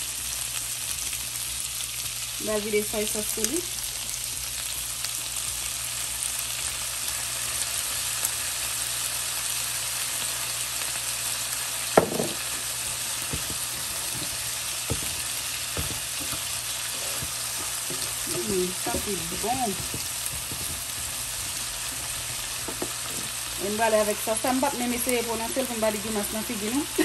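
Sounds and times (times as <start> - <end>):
meat sizzling in a skillet: 0.0 - 27.0.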